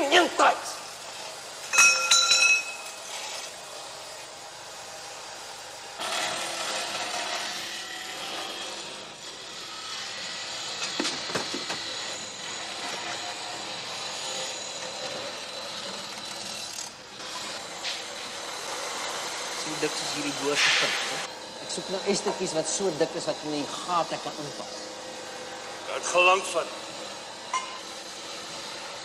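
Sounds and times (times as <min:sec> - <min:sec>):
power tools grinding metal: 0:00.0 - 0:29.0.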